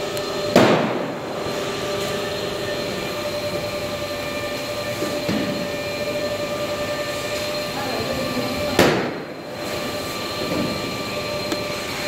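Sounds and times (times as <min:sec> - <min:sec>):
fans and motors humming: 0:00.0 - 0:12.0
motor sound falling in pitch: 0:00.0 - 0:12.0.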